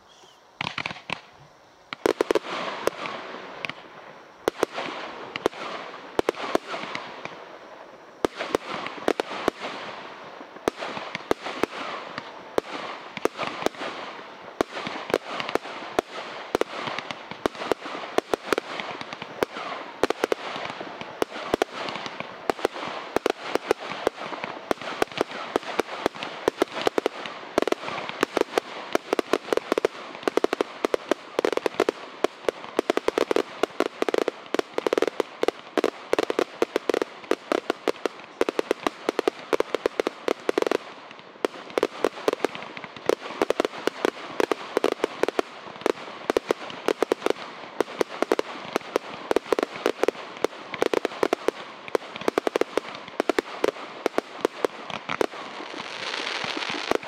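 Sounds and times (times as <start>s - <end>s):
firework barrage bursts: 0.6s - 57.0s.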